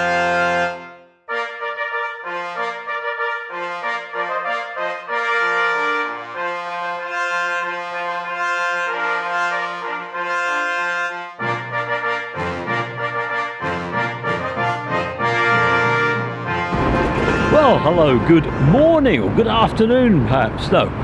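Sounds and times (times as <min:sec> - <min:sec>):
brass fanfare chords: 0:00.0 - 0:20.5.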